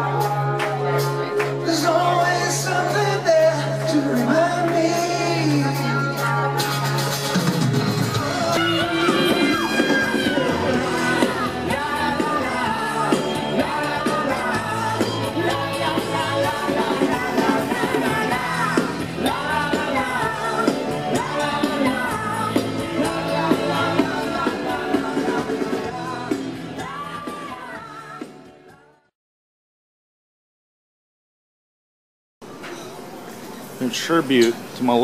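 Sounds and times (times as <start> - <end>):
live rock band with singer: 0.0 - 28.8.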